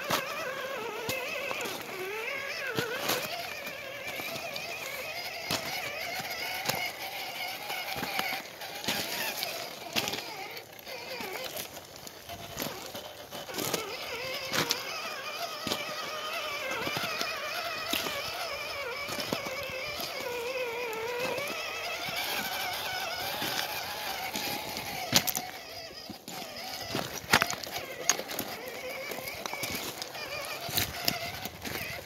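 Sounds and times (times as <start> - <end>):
electric motor whining: 0.0 - 32.0
tyres knocking on loose rocks: 0.0 - 32.0.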